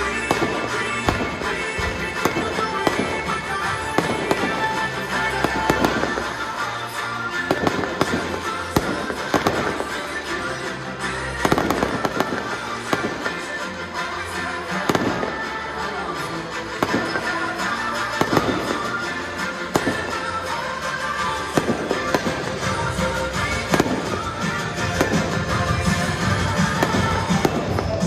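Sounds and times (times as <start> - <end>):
fireworks banging and crackling: 0.0 - 28.0
music playing: 0.0 - 28.0.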